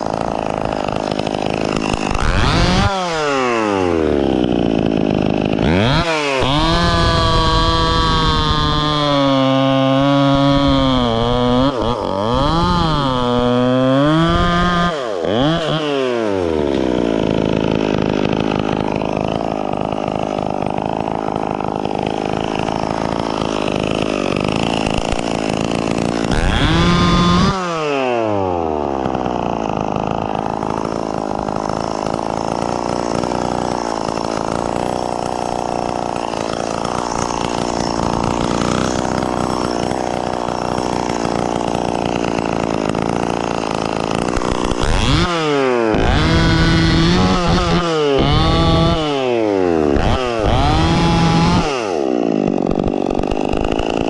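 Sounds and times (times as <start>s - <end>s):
chainsaw cutting and revving: 0.0s - 54.0s.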